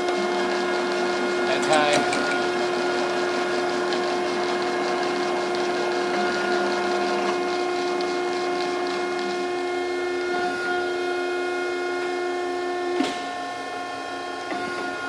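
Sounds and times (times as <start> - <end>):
grinder machine hum and whine: 0.0 - 15.0.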